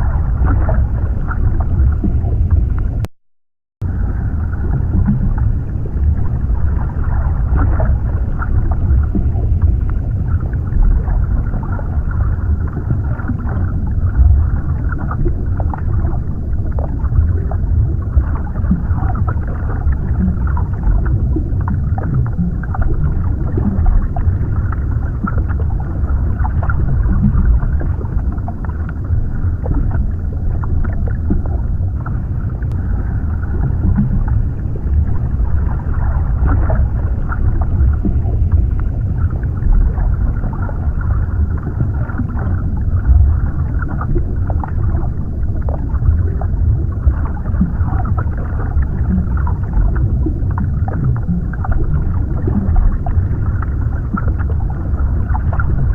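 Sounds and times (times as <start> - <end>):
small underwater crackles and clicks: 0.0 - 3.1, 3.8 - 55.9
underwater rumbling wash: 0.0 - 3.1, 3.8 - 55.9.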